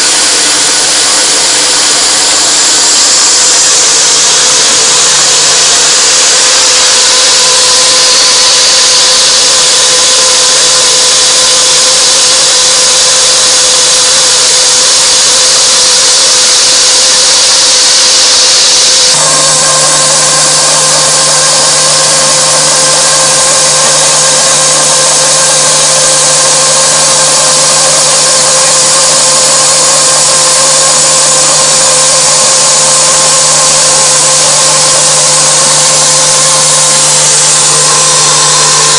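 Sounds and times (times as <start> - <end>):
endmill cutting metal hiss: 0.0 - 38.9
machine whine: 0.0 - 38.9.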